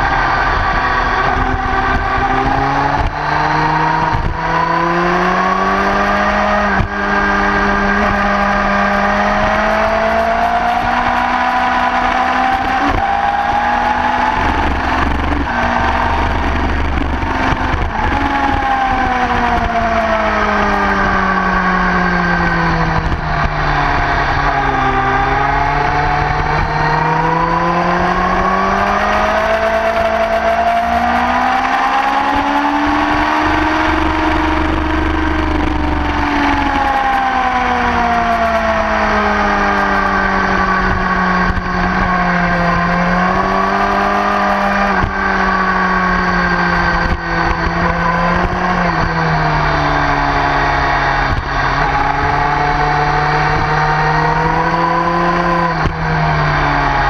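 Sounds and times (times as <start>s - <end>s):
motorcycle engine at full throttle: 0.0s - 57.0s
wind rumble on microphone: 0.0s - 57.0s.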